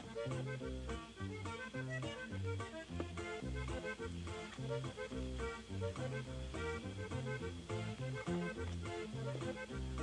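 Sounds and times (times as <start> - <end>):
accordion-like melody: 0.0 - 10.0
bass on two-beat rhythm: 0.0 - 10.0.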